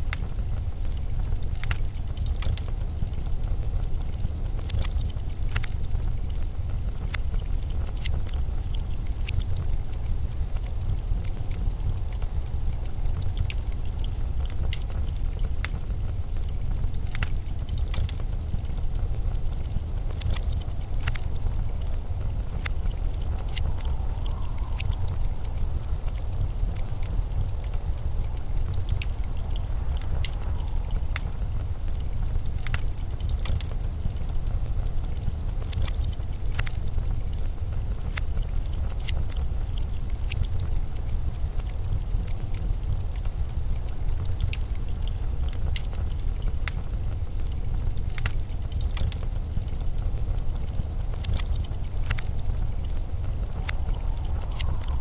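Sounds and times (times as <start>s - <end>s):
blizzard wind rumble: 0.0s - 55.0s
sharp crackles and ticks: 0.0s - 55.0s.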